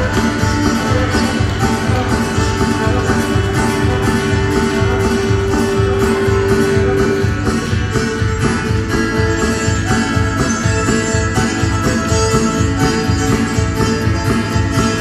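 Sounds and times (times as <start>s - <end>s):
fiddle: 0.0s - 15.0s
guitar: 0.0s - 15.0s.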